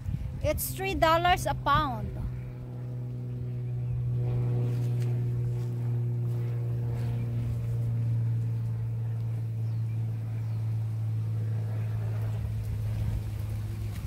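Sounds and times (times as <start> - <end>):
small motor droning: 0.0 - 14.0.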